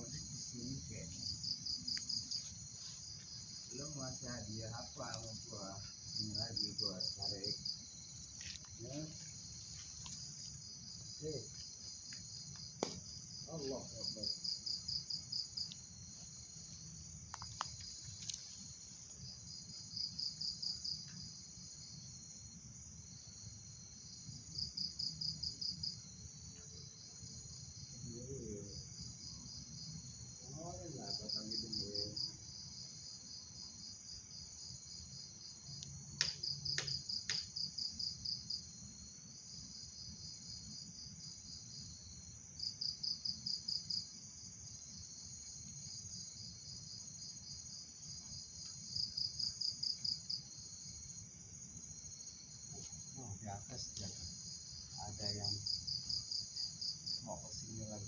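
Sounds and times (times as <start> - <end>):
crickets chirping drone: 0.0 - 58.0
rapid pulsing insect trill: 0.0 - 58.0.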